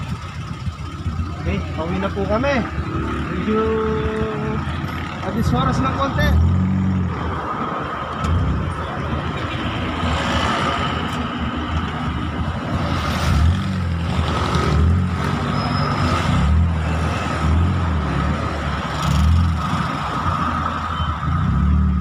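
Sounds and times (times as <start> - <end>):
vehicle engine running: 0.0 - 20.0
road and wind noise: 0.0 - 22.0.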